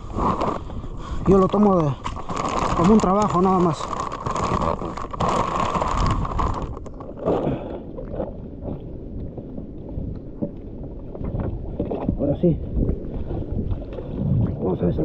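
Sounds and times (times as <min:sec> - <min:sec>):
sea water sloshing: 0:00.0 - 0:15.0
wind on microphone: 0:00.0 - 0:15.0.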